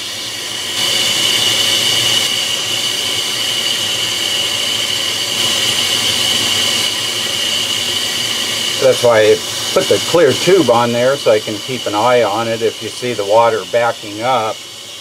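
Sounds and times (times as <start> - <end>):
water heater hissing with high tone: 0.0 - 15.0.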